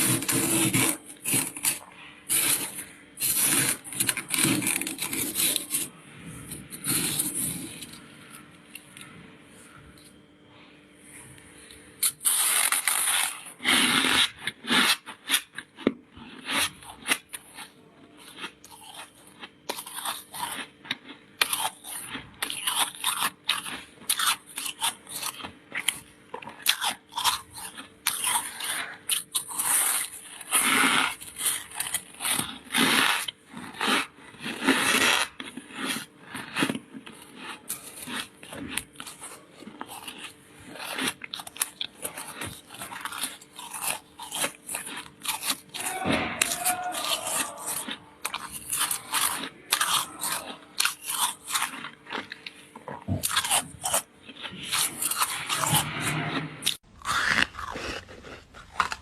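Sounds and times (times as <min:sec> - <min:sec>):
ice being bitten and chewed: 0:00.0 - 0:10.2, 0:11.6 - 0:59.0.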